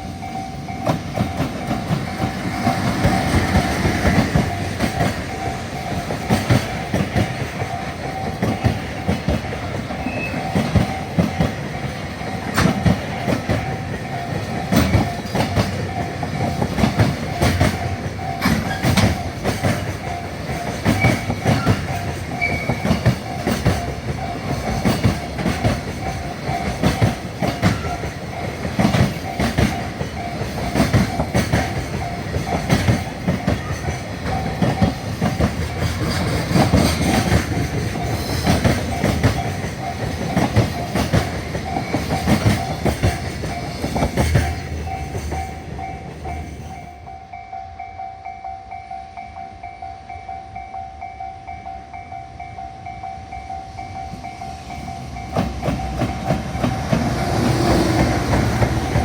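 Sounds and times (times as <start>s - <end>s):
train wheels clattering over rails: 0.0s - 47.1s, 53.9s - 59.0s
level-crossing warning bell: 0.0s - 59.0s.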